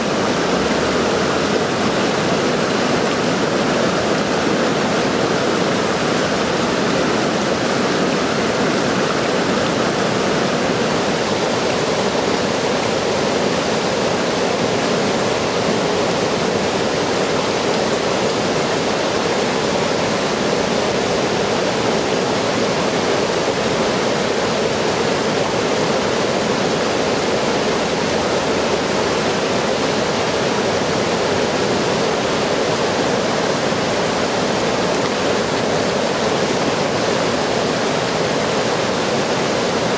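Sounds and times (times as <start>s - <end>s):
water rushing over a dam: 0.0s - 39.9s.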